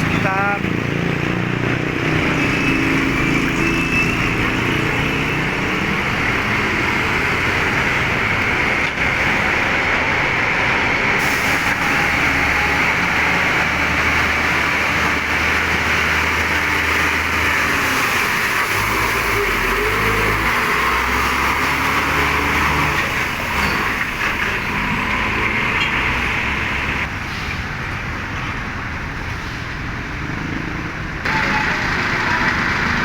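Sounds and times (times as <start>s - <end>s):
highway traffic engines: 0.0s - 33.0s.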